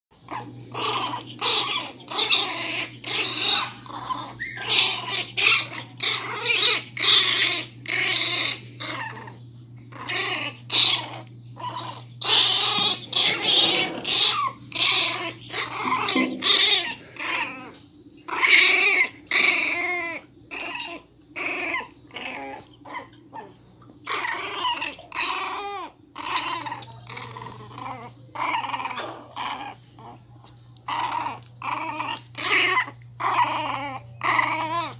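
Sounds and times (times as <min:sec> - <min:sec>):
puppies growling: 0:00.2 - 0:34.9
puppies whining: 0:00.2 - 0:34.9.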